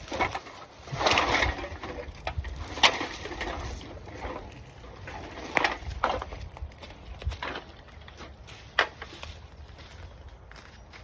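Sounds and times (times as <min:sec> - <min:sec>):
drink cans being handled: 0:00.0 - 0:11.0.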